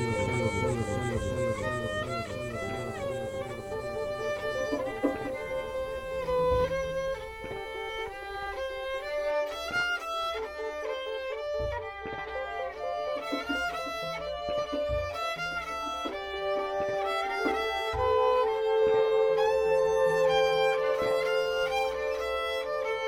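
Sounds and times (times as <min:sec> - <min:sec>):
bowed string melodic music: 0:00.0 - 0:23.0.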